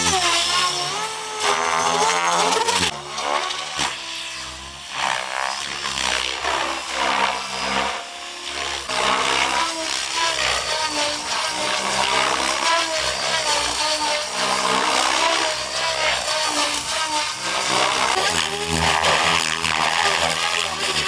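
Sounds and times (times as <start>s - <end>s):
rc helicopter motor whine: 0.0s - 21.0s.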